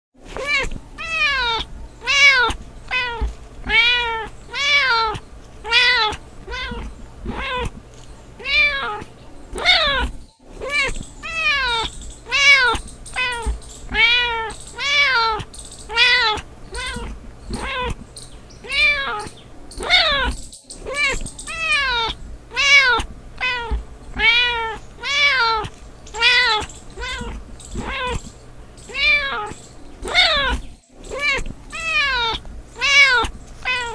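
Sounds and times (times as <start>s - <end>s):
cat meowing: 0.4s - 7.8s, 8.4s - 18.0s, 18.6s - 33.9s.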